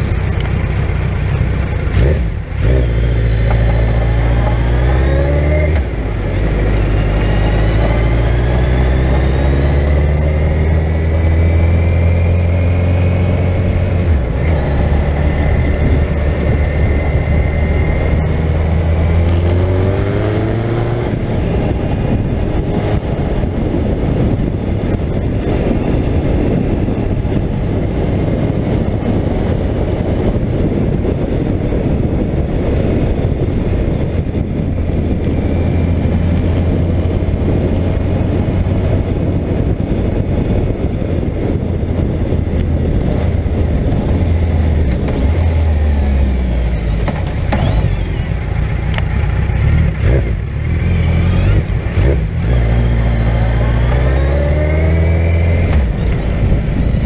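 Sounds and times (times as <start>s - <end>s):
motorcycle engine running: 0.0s - 9.6s, 10.2s - 57.0s
wind rush on microphone: 0.0s - 57.0s.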